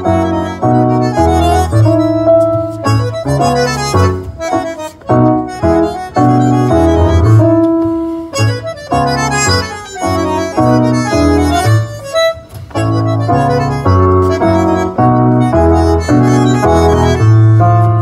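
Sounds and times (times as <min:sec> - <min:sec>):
bandoneon playing tango: 0:00.0 - 0:18.0.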